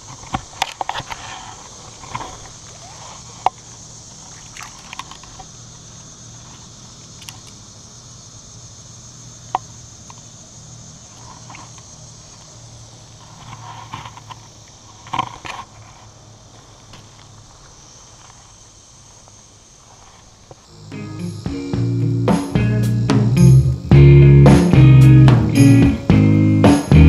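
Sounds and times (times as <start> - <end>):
faint hum and hiss: 0.0 - 27.0
grass rustling: 0.0 - 27.0.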